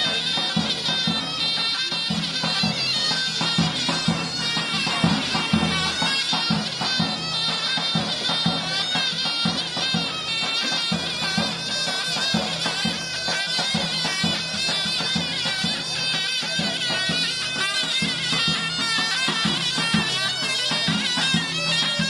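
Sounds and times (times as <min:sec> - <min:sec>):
reedy wind instrument melody: 0:00.0 - 0:22.0
steady drum beats: 0:00.0 - 0:22.0.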